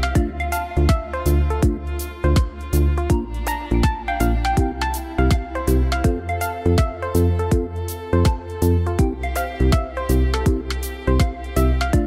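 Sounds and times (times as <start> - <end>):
instrumental music with beat: 0.0 - 12.0.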